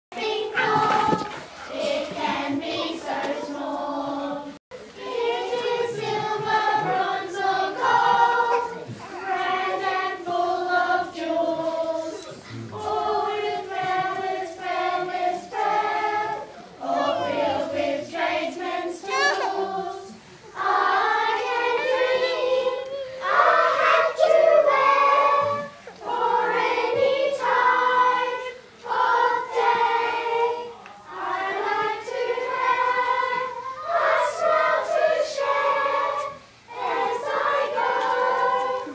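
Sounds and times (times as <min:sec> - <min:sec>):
children's chorus singing: 0:00.1 - 0:38.9.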